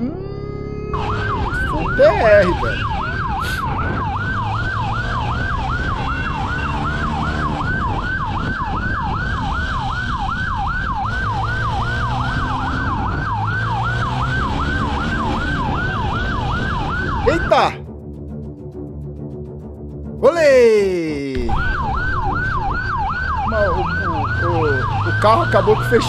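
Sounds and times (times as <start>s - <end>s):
motorcycle engine revving: 0.0s - 17.4s, 21.4s - 26.0s
police siren yelping: 0.0s - 17.8s, 21.4s - 26.0s.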